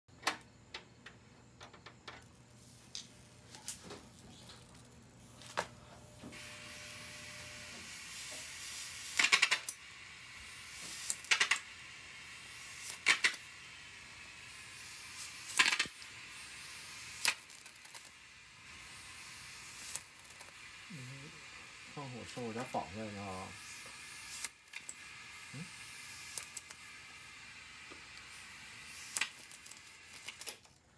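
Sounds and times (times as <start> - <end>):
steady hiss: 2.2 - 30.5
electric arcing snaps: 2.2 - 30.6.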